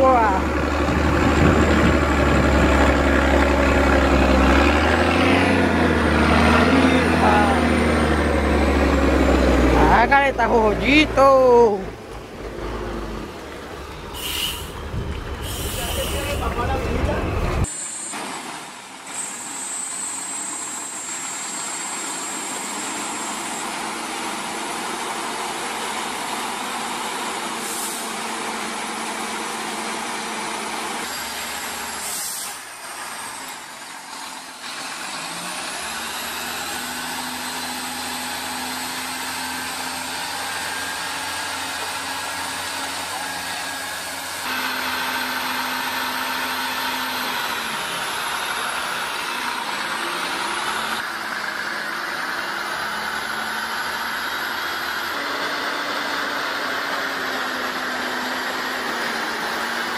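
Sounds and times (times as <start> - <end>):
truck diesel engine straining: 0.0 - 59.9.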